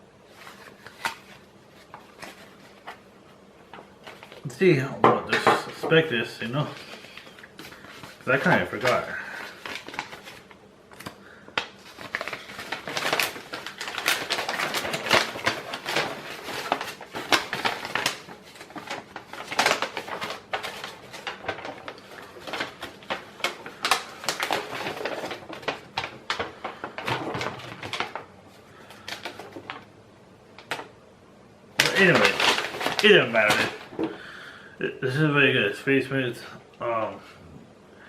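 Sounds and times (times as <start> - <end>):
hands clicking and rustling packaging: 0.3 - 3.0, 3.6 - 4.4, 5.2 - 29.9, 30.5 - 30.9, 31.8 - 34.2.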